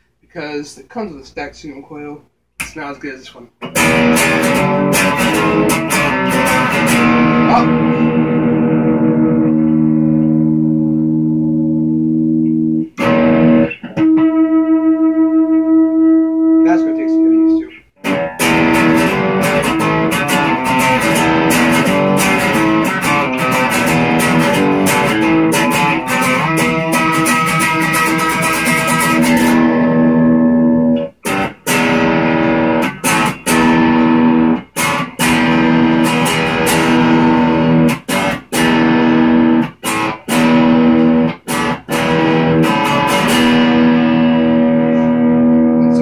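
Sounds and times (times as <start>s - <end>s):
electric guitar chords strummed: 3.6s - 46.0s.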